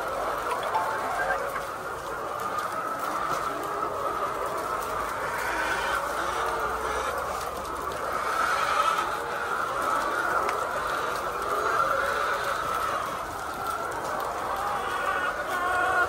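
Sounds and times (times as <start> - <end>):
flock of chickens calling: 0.0 - 16.0.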